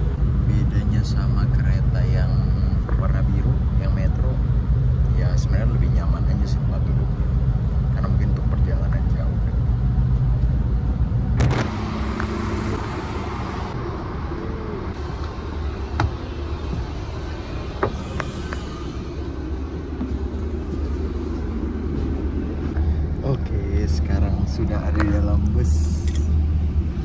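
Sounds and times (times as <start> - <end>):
bus engine hum: 0.0 - 27.0
train interior rumble: 0.0 - 27.0.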